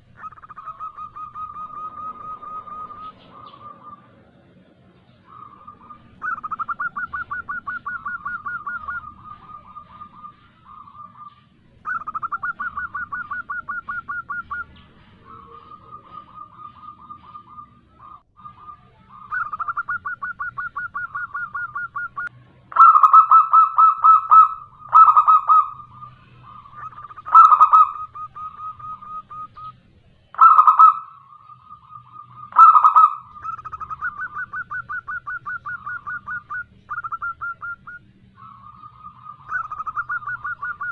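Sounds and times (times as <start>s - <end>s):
harsh dove call bursts: 0.0s - 4.3s, 5.2s - 29.8s, 30.4s - 40.9s
dove trilled cooing: 0.0s - 40.9s.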